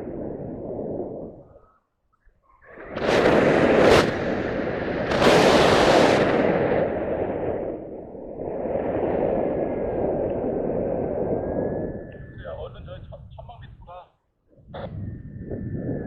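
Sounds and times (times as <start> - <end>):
wind buffeting microphone: 0.0 - 1.8, 2.6 - 16.0.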